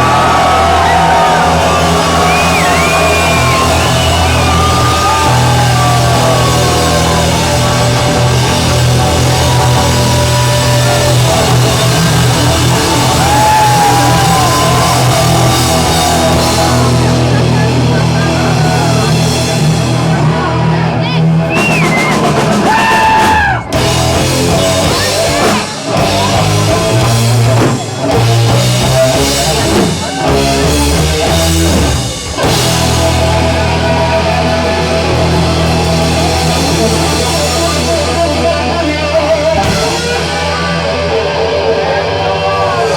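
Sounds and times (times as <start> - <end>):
distorted electric guitar: 0.0 - 42.9
live rock band playing: 0.0 - 42.9.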